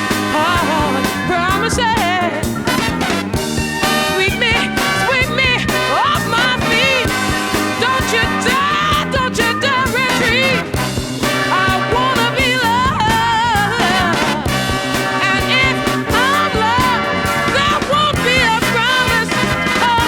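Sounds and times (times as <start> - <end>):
bending vocal melody: 0.0 - 20.0
ska swing music with beat: 0.0 - 20.0.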